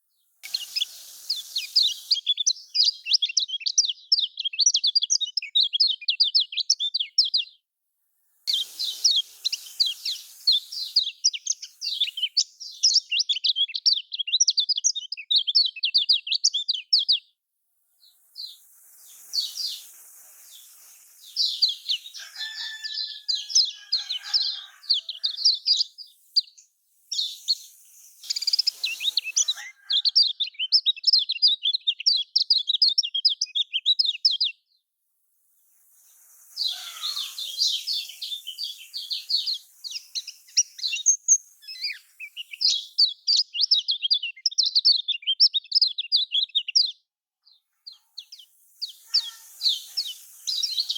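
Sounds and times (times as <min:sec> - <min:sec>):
bird twittering song: 0:00.0 - 0:07.6, 0:08.5 - 0:17.3, 0:18.0 - 0:34.7, 0:35.9 - 0:50.9.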